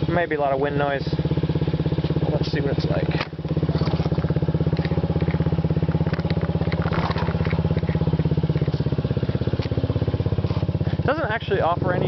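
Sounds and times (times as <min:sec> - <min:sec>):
small scooter engine running: 0:00.0 - 0:12.0.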